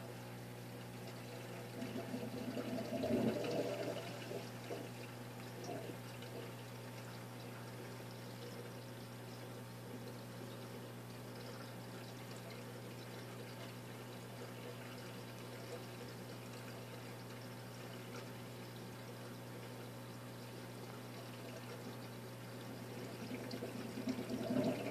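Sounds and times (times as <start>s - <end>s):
low pump hum: 0.0s - 24.9s
water trickling and splashing: 0.6s - 24.9s.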